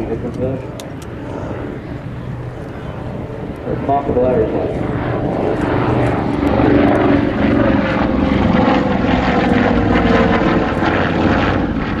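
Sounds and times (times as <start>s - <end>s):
propeller aircraft flying overhead: 0.0s - 12.0s.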